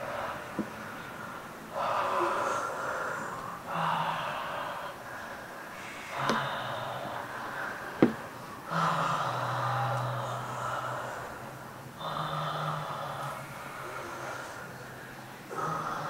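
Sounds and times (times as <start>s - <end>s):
people breathing deeply: 0.0s - 16.0s.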